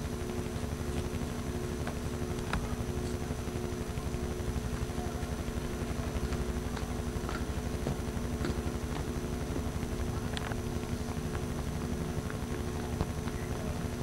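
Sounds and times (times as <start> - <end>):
faint camcorder hum: 0.0 - 14.0.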